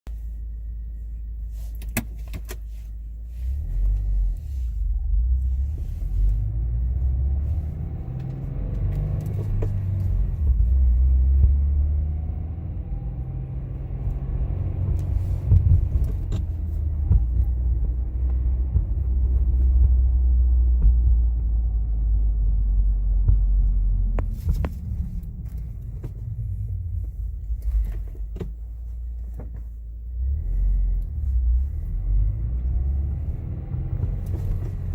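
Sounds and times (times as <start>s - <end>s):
car engine rumbling while driving: 0.0s - 34.9s.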